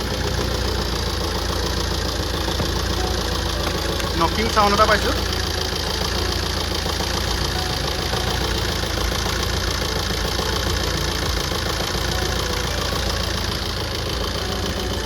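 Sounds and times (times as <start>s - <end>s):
diesel engine idling roughly: 0.0s - 15.0s
engine knocking: 0.0s - 15.0s.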